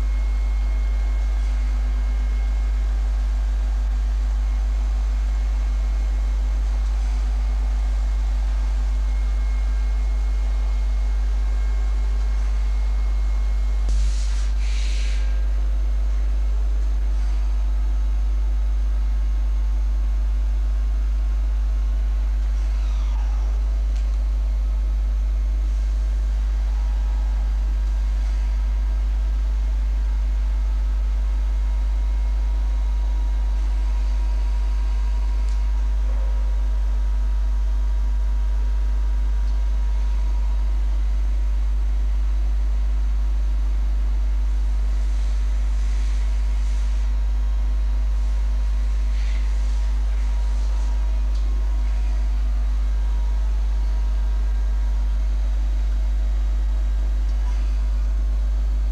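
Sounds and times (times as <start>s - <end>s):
grinding machine humming: 0.0s - 58.9s.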